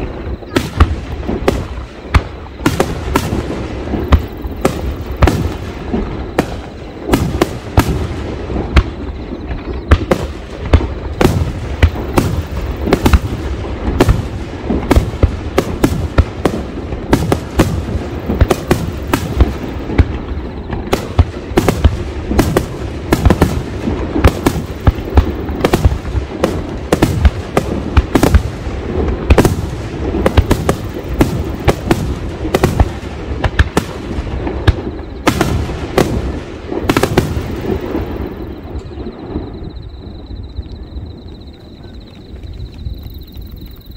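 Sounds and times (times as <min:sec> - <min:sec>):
fireworks bursting: 0:00.0 - 0:40.5.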